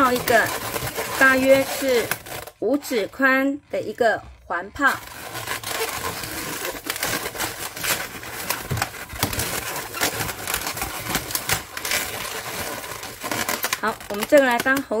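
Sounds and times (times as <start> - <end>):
balloons squeaking when twisted: 0.0 - 15.0.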